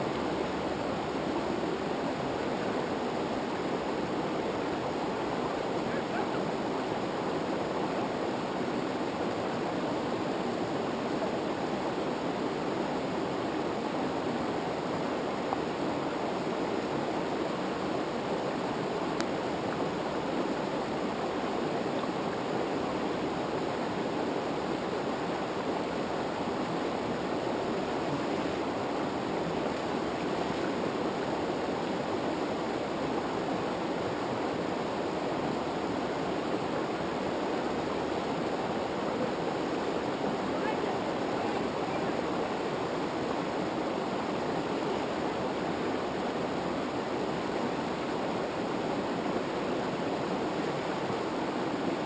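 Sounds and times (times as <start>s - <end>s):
river rapids roaring: 0.0s - 52.0s.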